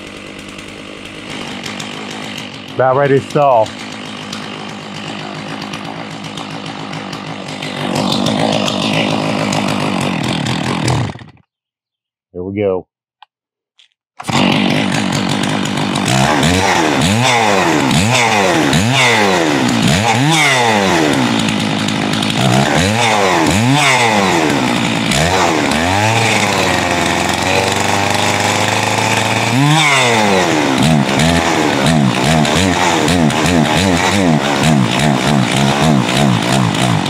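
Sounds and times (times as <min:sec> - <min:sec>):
chainsaw revving: 0:00.0 - 0:11.4, 0:14.2 - 0:37.0.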